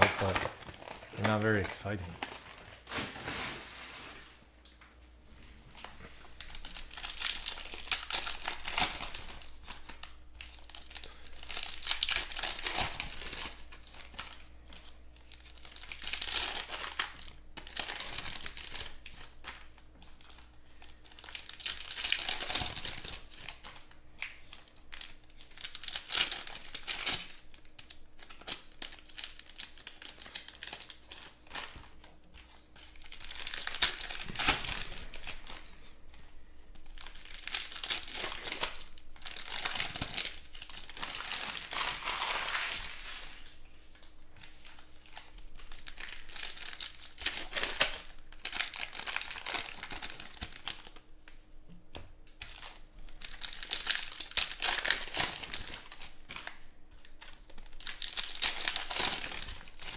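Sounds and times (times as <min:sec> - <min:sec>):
foil wrappers tearing and crinkling: 0:00.0 - 0:04.4, 0:05.8 - 0:35.7, 0:36.8 - 0:51.0, 0:52.4 - 0:59.9.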